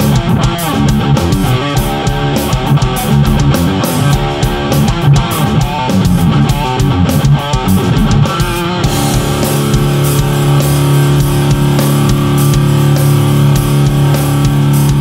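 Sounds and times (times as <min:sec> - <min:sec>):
drum hits: 0:00.0 - 0:15.0
electric guitar rock riff: 0:00.0 - 0:15.0.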